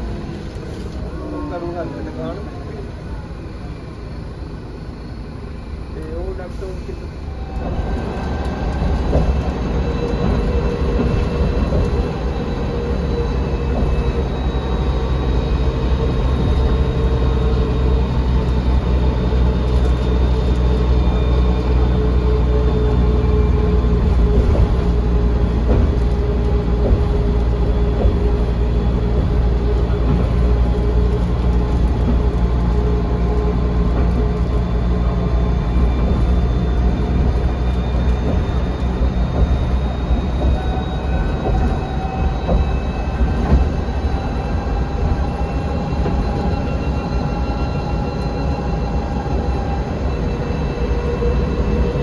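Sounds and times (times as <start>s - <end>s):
bus engine and road drone: 0.0s - 52.0s.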